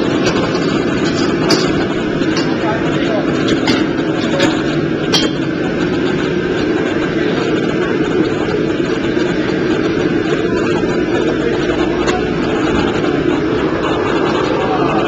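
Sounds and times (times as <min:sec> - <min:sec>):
roar of gas burners and ventilation: 0:00.0 - 0:15.0.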